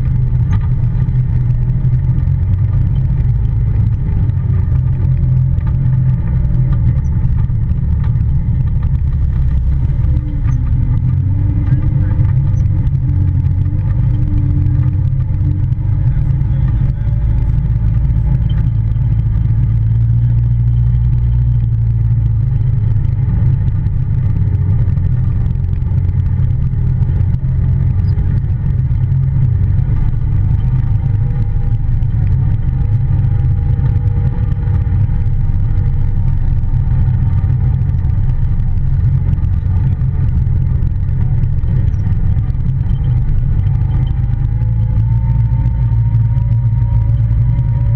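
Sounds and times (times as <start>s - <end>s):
vehicle engine droning: 0.0s - 47.9s.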